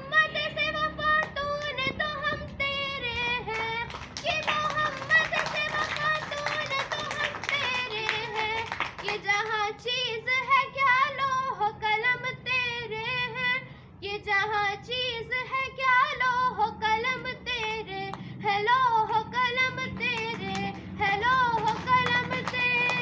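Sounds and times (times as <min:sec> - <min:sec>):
child singing: 0:00.0 - 0:23.0.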